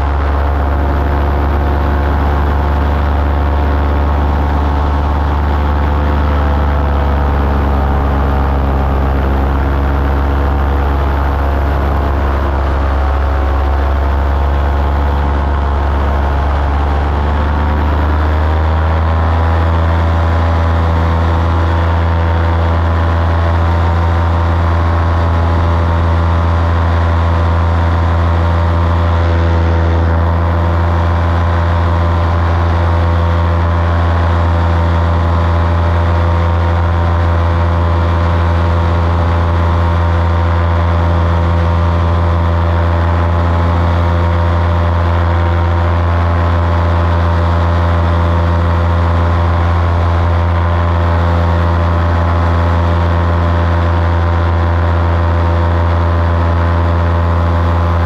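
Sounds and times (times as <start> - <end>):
small aircraft engine in flight: 0.0 - 58.0.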